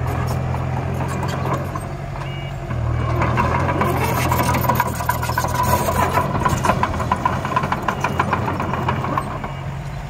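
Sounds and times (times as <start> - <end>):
engine drone: 0.0 - 10.0.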